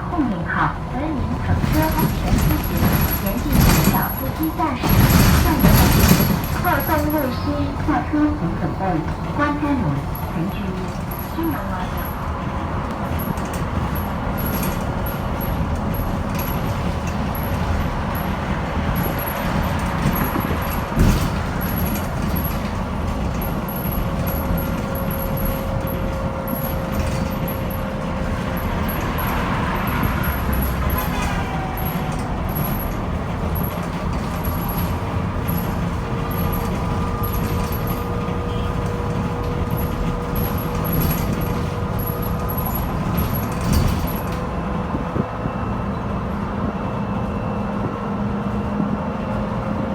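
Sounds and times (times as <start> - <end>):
road noise rumble: 0.0 - 49.9.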